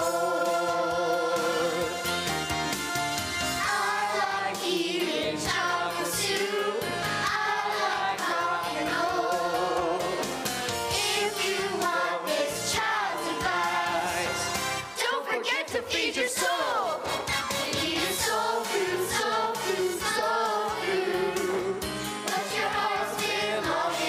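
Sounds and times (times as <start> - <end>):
children's choir singing: 0.0 - 2.1, 3.6 - 24.0
accompanying music: 0.0 - 24.0.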